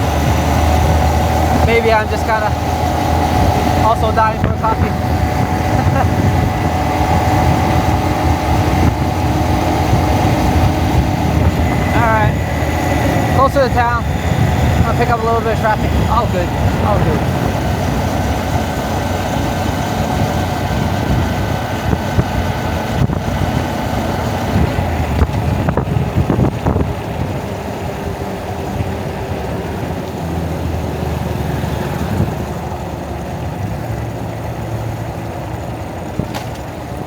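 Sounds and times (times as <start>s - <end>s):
wind noise on microphone: 0.0s - 30.2s, 30.8s - 34.0s
motorbike engine running: 0.0s - 37.0s.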